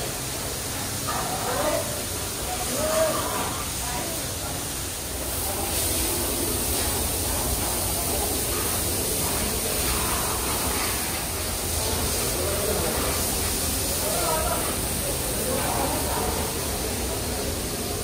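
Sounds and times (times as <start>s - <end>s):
faint voices: 0.0s - 18.0s
steady hissing noise: 0.0s - 18.0s.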